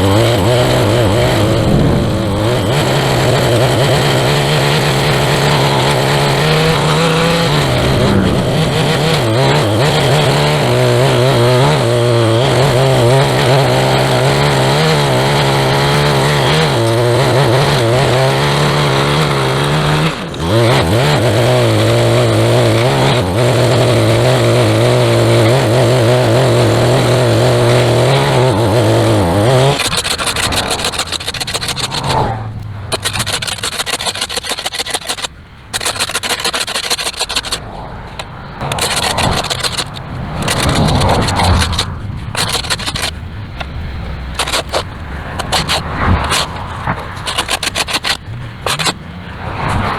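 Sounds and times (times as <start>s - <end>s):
fast rough scraping: 0.0s - 49.9s
small gasoline engine revving: 0.0s - 49.9s.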